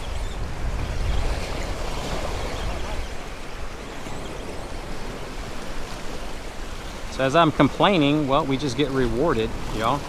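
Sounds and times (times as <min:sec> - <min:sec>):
waves breaking against rocks: 0:00.0 - 0:10.0
wind rumbling on microphone: 0:00.0 - 0:10.0.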